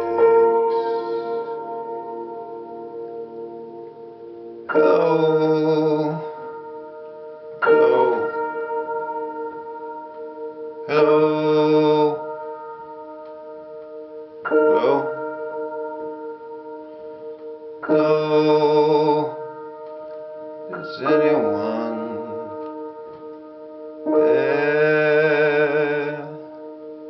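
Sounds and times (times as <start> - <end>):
person singing long notes: 0.0 - 9.7, 10.8 - 13.9, 14.5 - 16.5, 17.6 - 27.0
slow piano song: 0.0 - 27.0.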